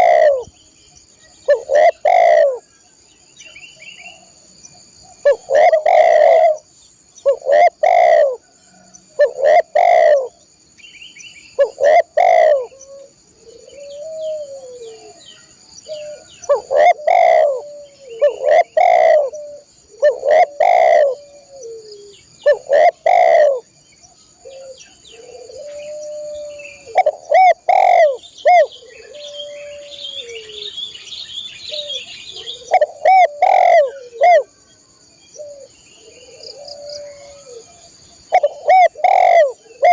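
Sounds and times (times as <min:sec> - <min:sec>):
dove cooing: 0:00.0 - 0:00.6, 0:01.4 - 0:02.7, 0:05.1 - 0:10.4, 0:11.6 - 0:23.7, 0:24.4 - 0:30.8, 0:31.7 - 0:34.6, 0:35.4 - 0:39.9
small birds chirping: 0:00.0 - 0:39.9.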